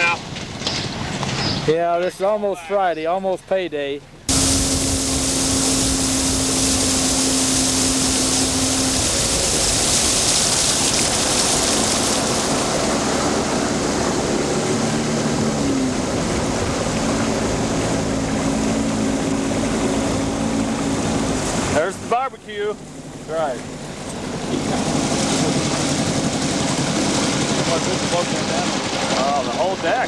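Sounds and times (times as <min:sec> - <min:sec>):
small boat motor running: 0:04.1 - 0:30.0
rush of wind and water: 0:04.3 - 0:30.0.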